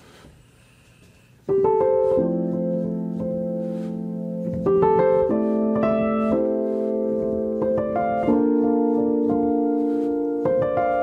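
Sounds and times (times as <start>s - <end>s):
piano chords: 1.4s - 11.0s.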